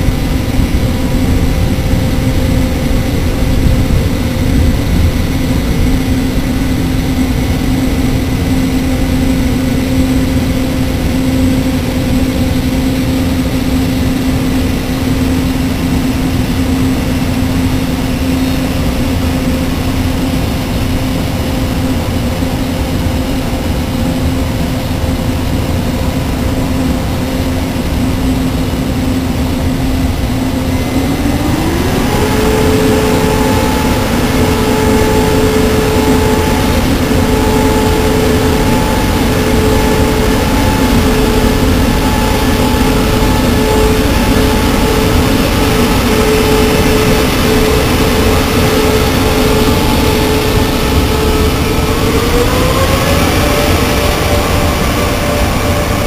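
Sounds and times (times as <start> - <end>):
electric motor whine: 0.0 - 56.0
train wheels rumbling: 0.0 - 56.0.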